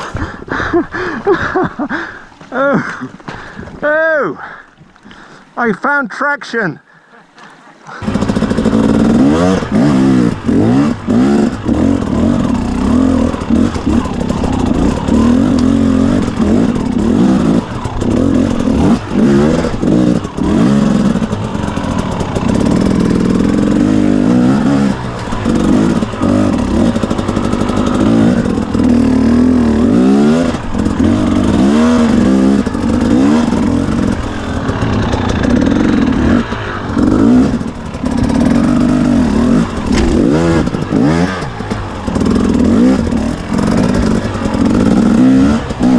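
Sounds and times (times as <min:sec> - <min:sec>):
dirt bike engine revving: 0:07.9 - 0:45.9.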